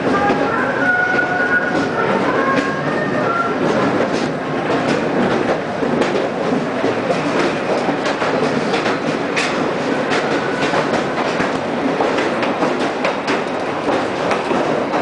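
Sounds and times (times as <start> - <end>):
railway carriage rattling: 0.0 - 15.0
wheels clicking on track: 0.0 - 15.0.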